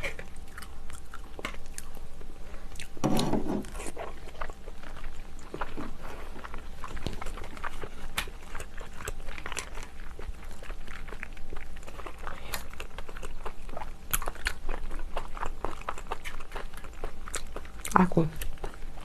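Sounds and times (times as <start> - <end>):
wet chewing and mouth clicks: 0.1 - 3.0, 3.7 - 19.0.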